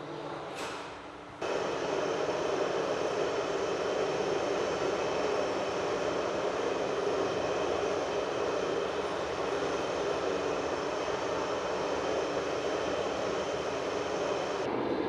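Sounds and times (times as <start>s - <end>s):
faint steady tones: 1.4s - 14.7s
hiss: 1.4s - 14.7s
industrial machinery drone: 1.4s - 15.0s.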